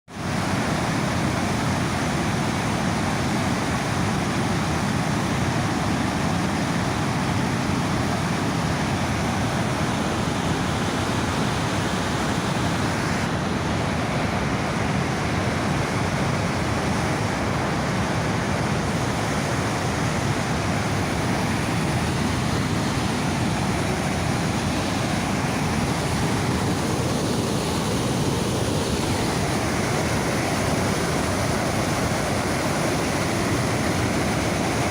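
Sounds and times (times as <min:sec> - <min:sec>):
roar of river rapids: 0:00.1 - 0:34.9.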